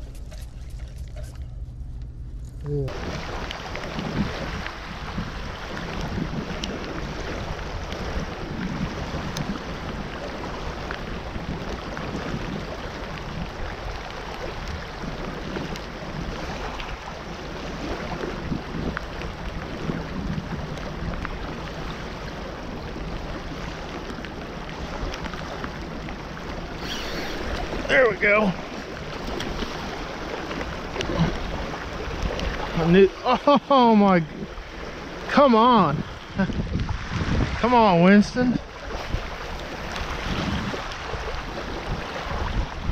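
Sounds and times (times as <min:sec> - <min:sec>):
water rushing through outflow: 0:02.8 - 0:42.9.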